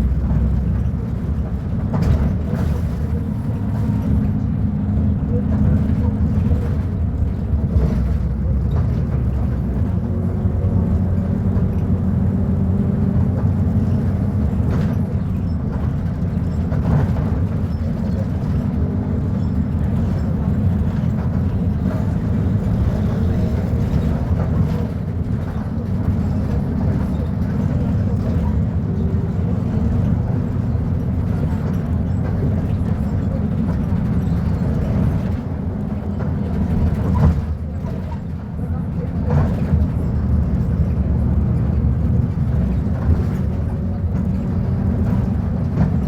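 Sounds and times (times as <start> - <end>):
bus diesel engine droning: 0.0 - 46.0.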